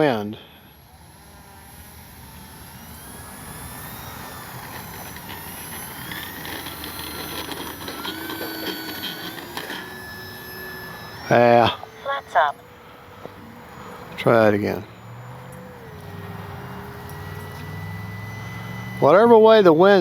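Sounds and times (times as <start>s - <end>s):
electric motor and propeller whine: 0.0s - 20.0s.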